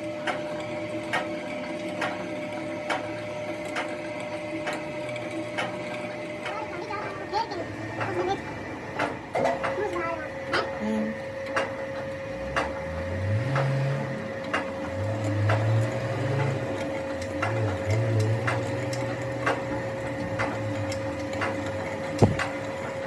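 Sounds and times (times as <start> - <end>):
lathe humming with ticks: 0.0 - 23.0.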